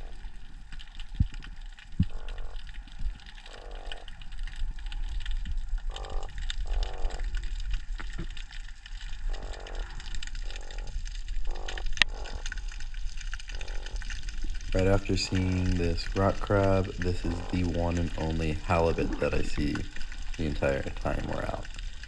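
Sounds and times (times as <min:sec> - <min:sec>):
crackle of faint clicks: 0:00.0 - 0:22.0
low water rumble: 0:00.0 - 0:22.0
underwater buzzy croaks: 0:00.0 - 0:22.0.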